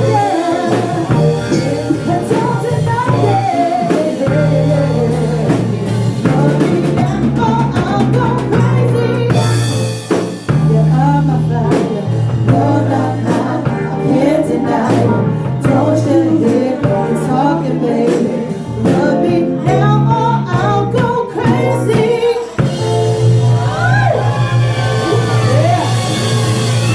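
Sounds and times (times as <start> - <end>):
person singing: 0.0 - 23.0
bass line: 0.0 - 26.9
drums: 0.0 - 26.9.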